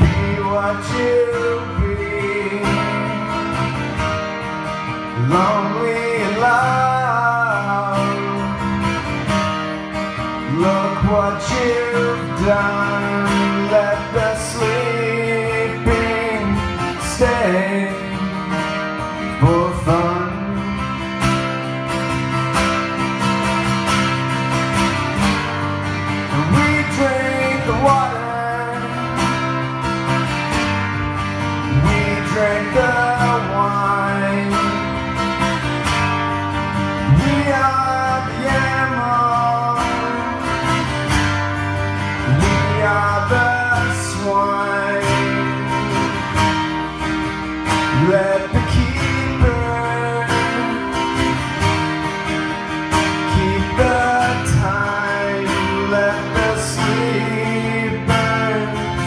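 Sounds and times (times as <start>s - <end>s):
acoustic guitars playing: 0.0s - 59.0s.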